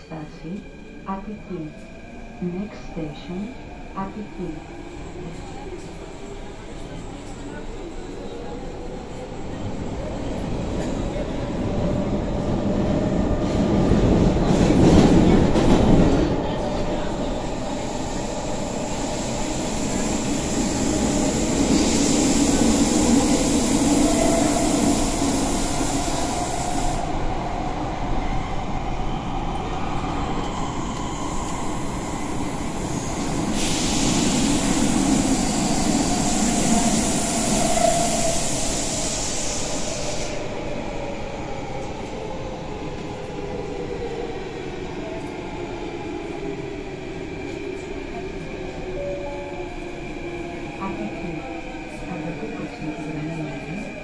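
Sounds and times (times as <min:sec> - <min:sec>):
train wheels rumbling on rail: 0:05.3 - 0:54.0.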